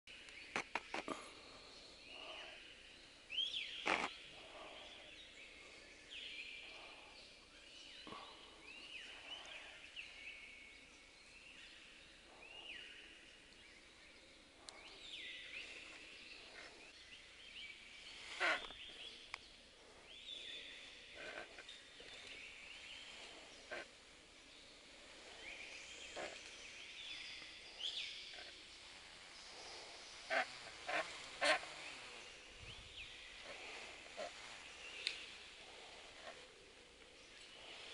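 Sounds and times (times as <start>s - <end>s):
birds calling: 0.1s - 37.9s.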